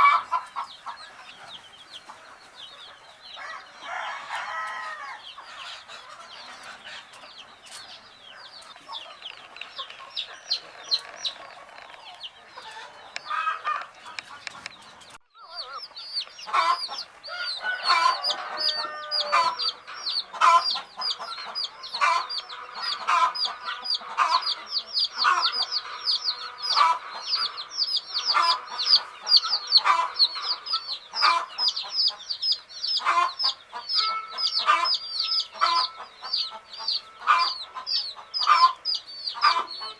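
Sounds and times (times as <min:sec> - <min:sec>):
baby chicks chirping: 0:00.0 - 0:39.9.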